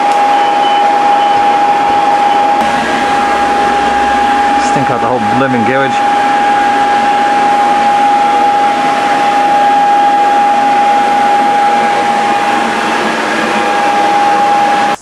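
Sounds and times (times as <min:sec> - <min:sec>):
smoke alarm tone: 0:00.0 - 0:12.7.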